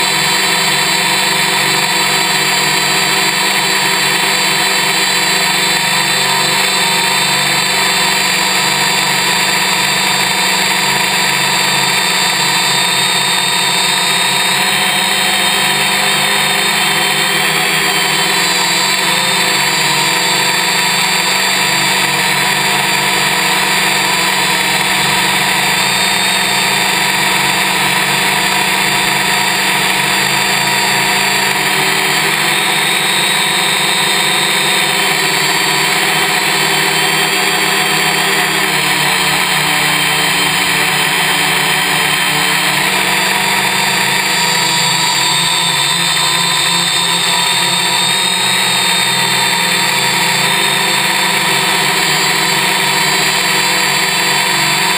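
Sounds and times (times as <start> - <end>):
drone motors and propellers buzzing: 0.0 - 54.9.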